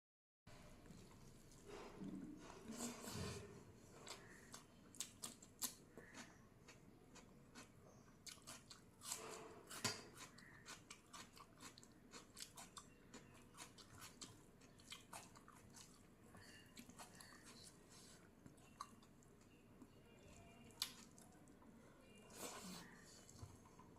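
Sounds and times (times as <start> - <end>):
person chewing with wet smacks: 0.8 - 21.7.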